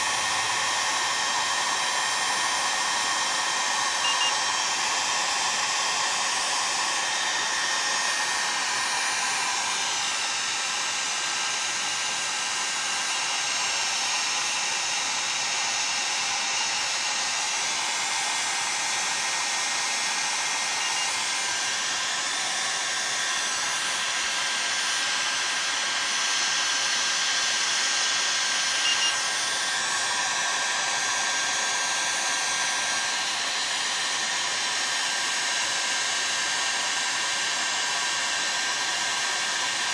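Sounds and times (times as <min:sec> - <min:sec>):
heat gun blowing: 0:00.0 - 0:39.9.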